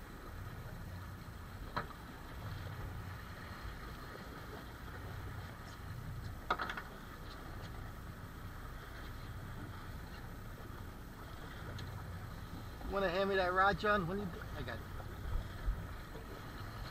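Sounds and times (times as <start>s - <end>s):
sea washing against hull: 0.0s - 16.9s
wind: 0.0s - 16.9s.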